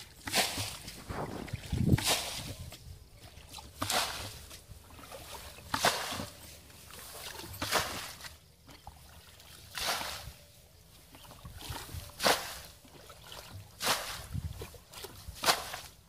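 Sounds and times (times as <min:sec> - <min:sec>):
water splashing from bucket: 0:00.0 - 0:10.4, 0:11.0 - 0:16.0.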